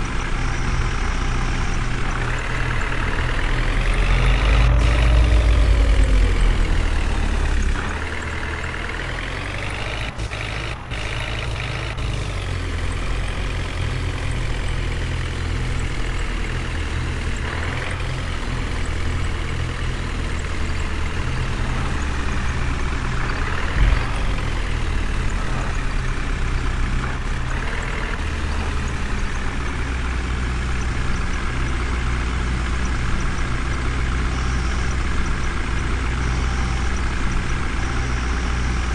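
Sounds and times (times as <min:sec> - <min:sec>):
heavy vehicle engine revving: 0:00.0 - 0:38.9.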